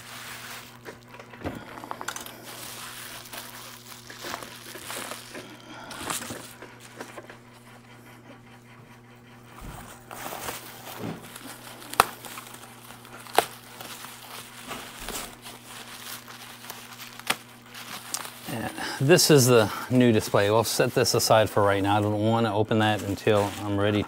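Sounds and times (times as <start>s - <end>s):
bubble wrap crinkling: 0.0s - 7.7s, 9.6s - 24.0s.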